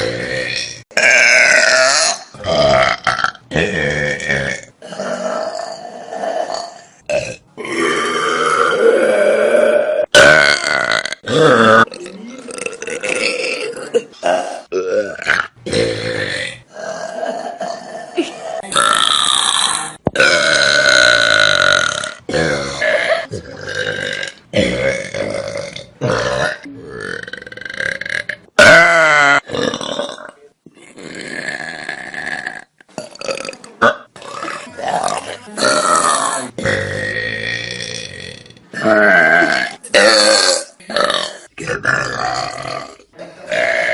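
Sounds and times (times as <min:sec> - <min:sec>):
people burping: 0:00.0 - 0:43.9.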